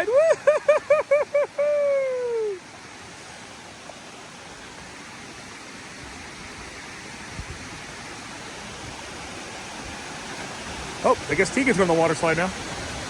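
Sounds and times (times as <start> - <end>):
creek water running over rocks: 0.0 - 13.0
heavy rain: 0.0 - 13.0.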